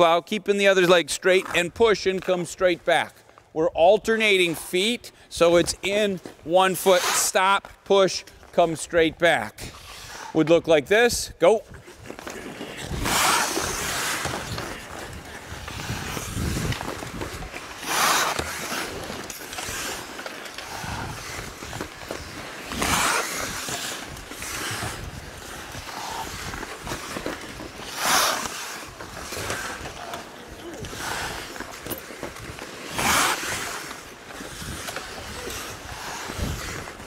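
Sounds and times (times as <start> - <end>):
skate blades scraping ice: 0.0 - 10.6, 11.4 - 37.0
quieter skating stride scrapes: 0.4 - 10.6, 11.5 - 37.0.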